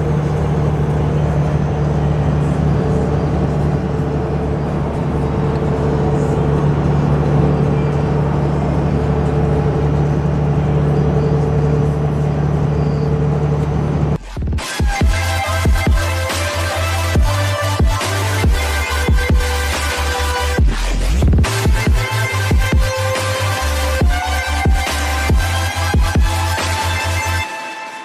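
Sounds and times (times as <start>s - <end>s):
vehicle engine hum: 0.0s - 27.4s
road noise: 0.0s - 27.6s.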